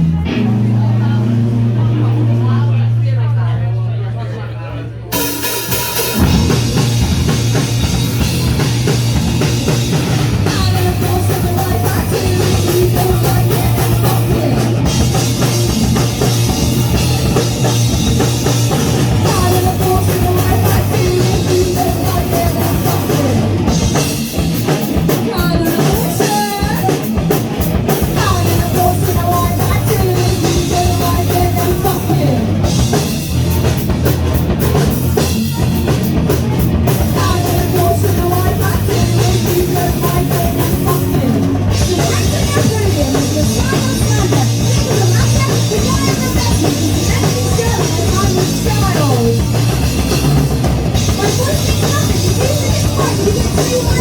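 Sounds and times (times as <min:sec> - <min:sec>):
driving drum kit: 0:00.0 - 0:03.3, 0:05.1 - 0:54.0
punk rock band playing: 0:00.0 - 0:03.8, 0:05.1 - 0:54.0.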